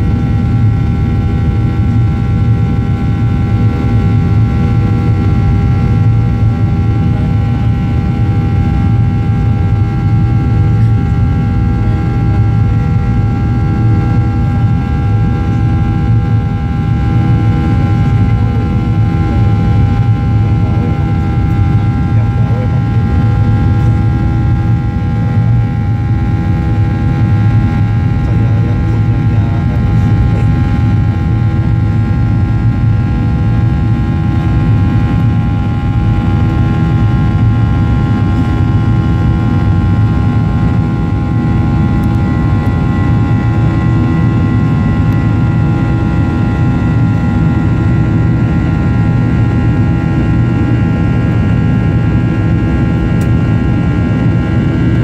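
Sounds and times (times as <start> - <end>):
jet engines in cabin: 0.0 - 55.0.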